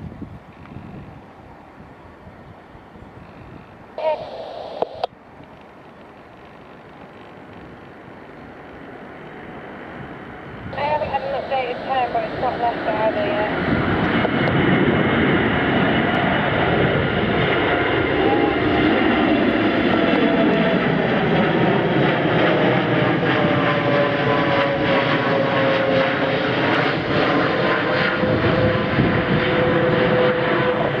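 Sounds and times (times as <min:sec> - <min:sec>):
jet engines at takeoff thrust: 0:00.0 - 0:31.0.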